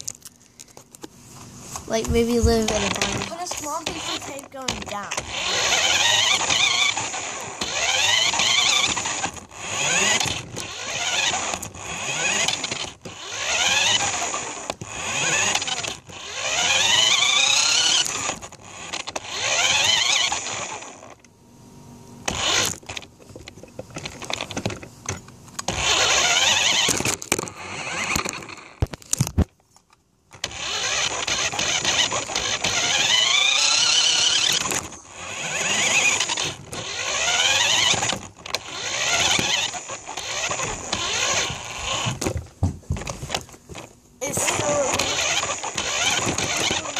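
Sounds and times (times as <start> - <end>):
rc car motor revving: 2.1 - 21.2, 22.2 - 23.0, 25.6 - 28.9, 30.4 - 42.3, 44.2 - 46.9.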